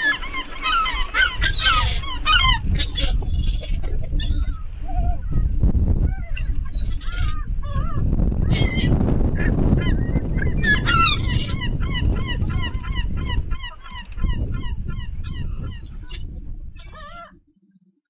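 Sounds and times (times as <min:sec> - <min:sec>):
birds calling: 0:00.0 - 0:17.4
steady low rumble: 0:01.3 - 0:17.3.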